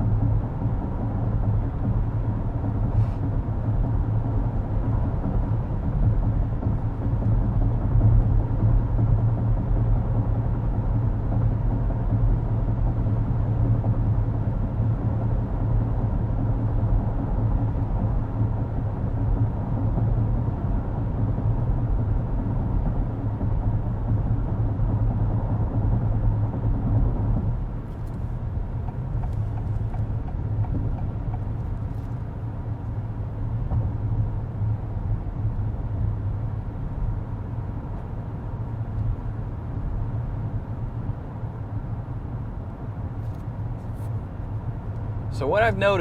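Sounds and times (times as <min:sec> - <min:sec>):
tyre and road noise in cabin: 0:00.0 - 0:46.0.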